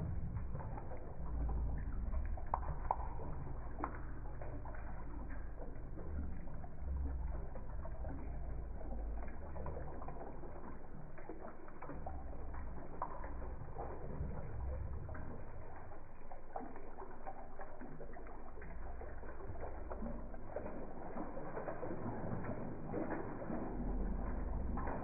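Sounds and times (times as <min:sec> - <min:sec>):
running water rumble: 0:00.0 - 0:25.0
small splashes and clicks: 0:00.0 - 0:25.0.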